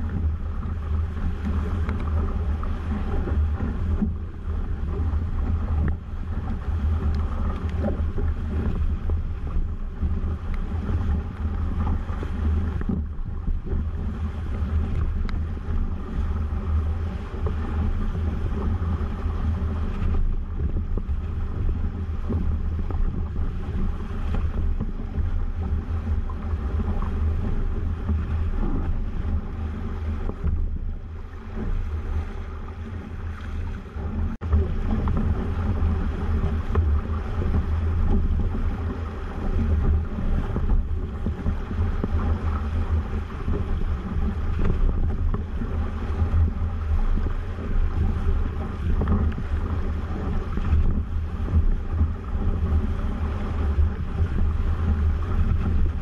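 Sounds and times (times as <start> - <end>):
water rushing past a hull: 0.0 - 56.0
wind buffeting the microphone: 0.0 - 56.0.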